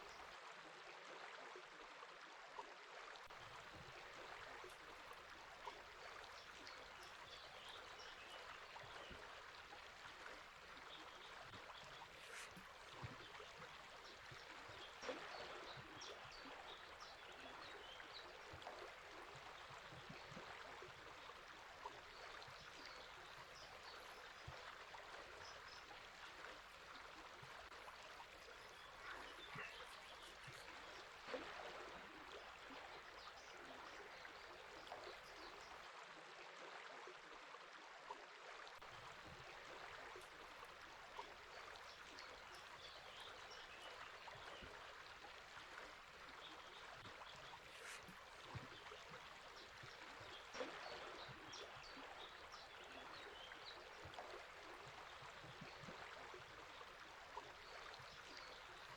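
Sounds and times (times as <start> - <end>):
river flowing: 0.0 - 0.4, 3.3 - 35.8, 38.8 - 58.9.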